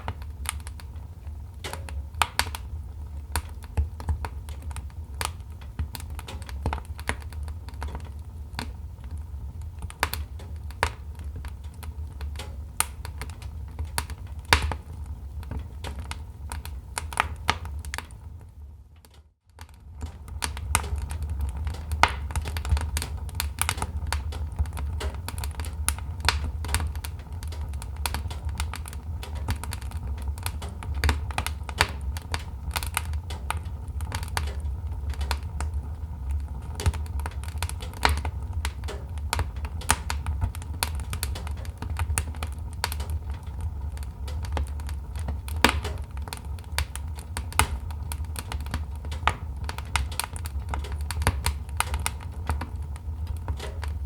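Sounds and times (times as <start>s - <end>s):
low fire rumble: 0.0s - 54.0s
wood fire crackling: 0.0s - 54.0s.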